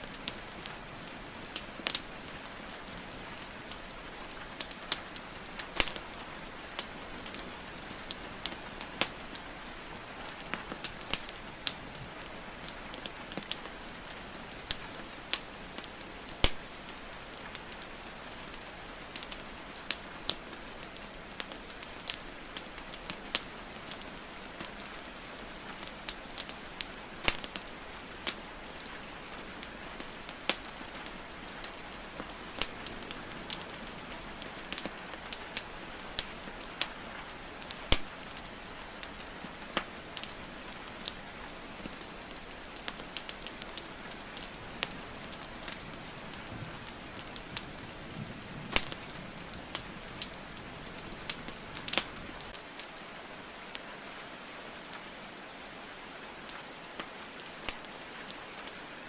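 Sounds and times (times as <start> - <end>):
rain hiss: 0.0 - 59.0
wood fire crackling: 0.0 - 59.0.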